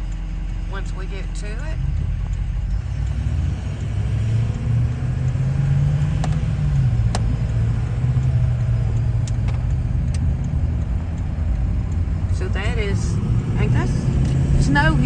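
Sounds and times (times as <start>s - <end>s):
car engine from inside: 0.0s - 15.0s
road noise: 0.0s - 15.0s.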